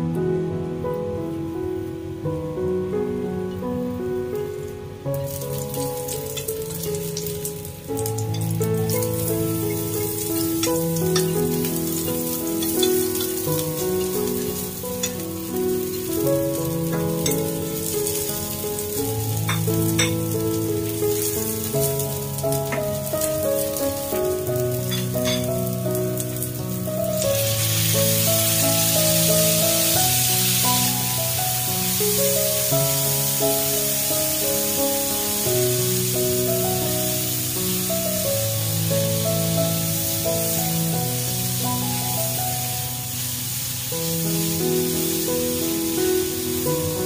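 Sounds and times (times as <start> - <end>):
background music with held notes: 0.0 - 47.0
ginger and garlic sizzling in oil: 3.5 - 47.0.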